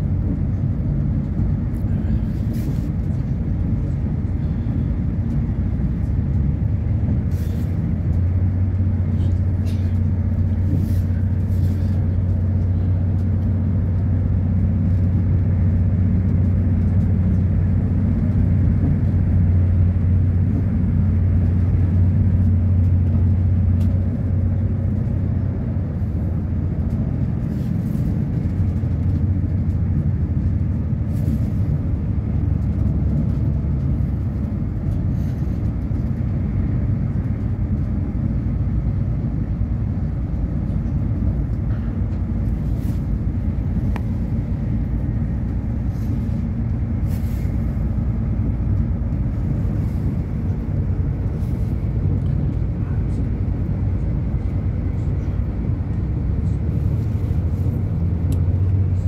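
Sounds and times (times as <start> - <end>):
train interior drone and rumble: 0.0 - 59.0.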